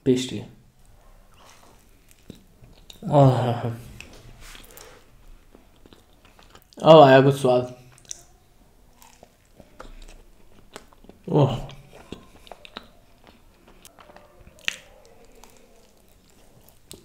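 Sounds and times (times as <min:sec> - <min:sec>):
chewing with wet mouth clicks: 0:01.3 - 0:03.0, 0:04.0 - 0:06.8, 0:07.7 - 0:17.0.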